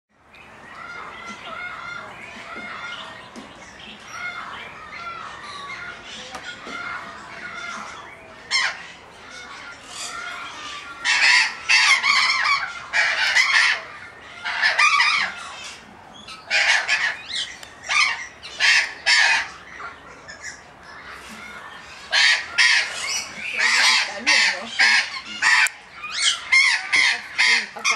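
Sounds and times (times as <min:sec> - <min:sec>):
parrots screeching: 0:00.7 - 0:27.9.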